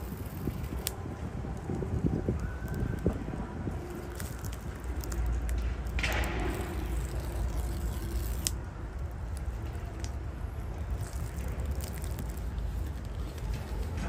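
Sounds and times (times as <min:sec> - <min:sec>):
plastic wrap ripping: 0:01.6 - 0:14.0.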